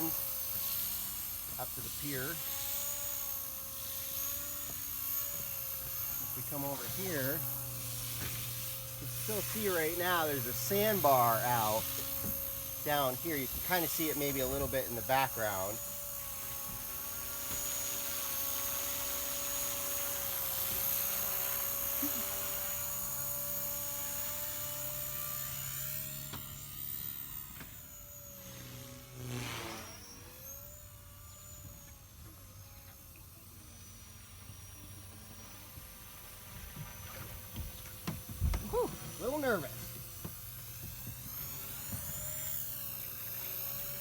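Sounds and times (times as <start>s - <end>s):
rc helicopter motor whine: 0.0s - 44.0s.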